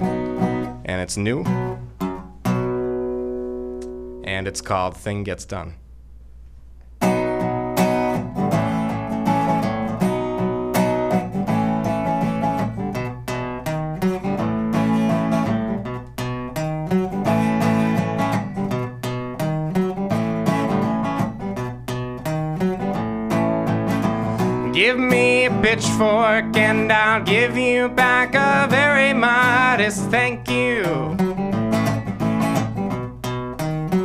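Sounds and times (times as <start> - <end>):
resonator guitar picking: 0.0 - 4.4, 6.9 - 34.0.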